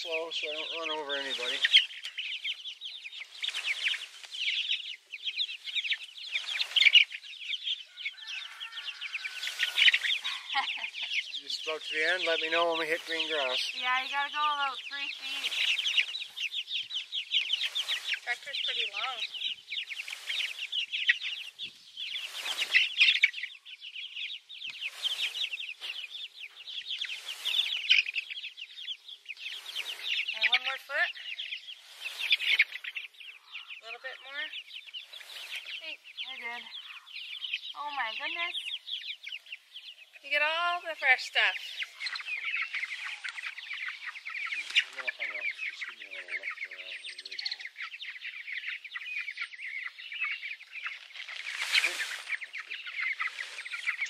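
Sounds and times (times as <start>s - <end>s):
rustling: 0.0s - 23.5s, 24.7s - 28.6s, 29.2s - 37.0s, 40.3s - 46.0s, 50.8s - 54.0s
chicks peeping: 0.0s - 54.0s.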